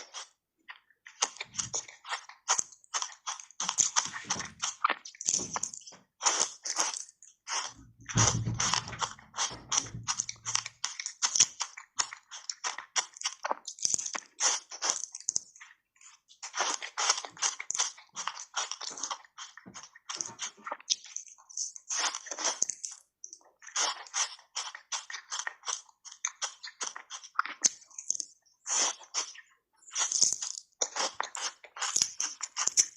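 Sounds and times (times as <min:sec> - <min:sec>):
ice crunching while chewed: 0:00.0 - 0:32.9.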